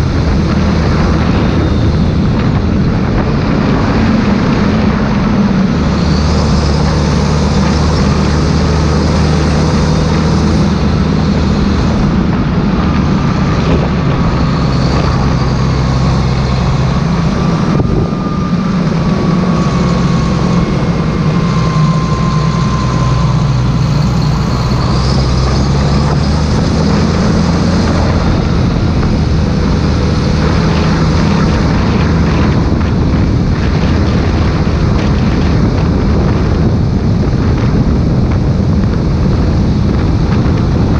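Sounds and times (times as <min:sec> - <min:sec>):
faint wavering whine: 0:00.0 - 0:35.1
tractor diesel engine running: 0:00.0 - 0:40.9.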